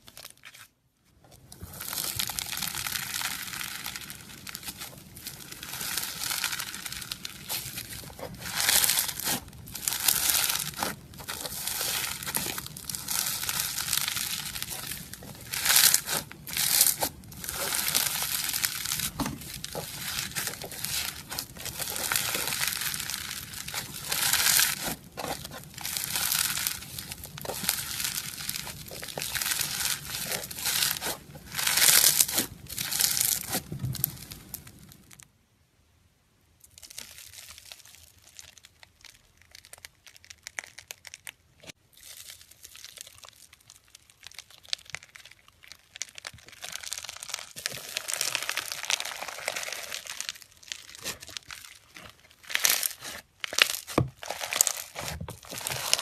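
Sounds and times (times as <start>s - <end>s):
foam slime crackling: 1.2s - 35.2s, 36.7s - 56.0s.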